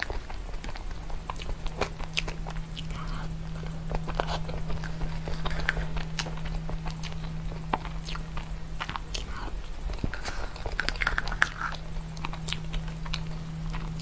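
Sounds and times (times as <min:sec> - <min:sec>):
chewing and wet mouth clicks: 0:00.0 - 0:03.3, 0:03.9 - 0:14.0
steady low hum: 0:00.0 - 0:14.0.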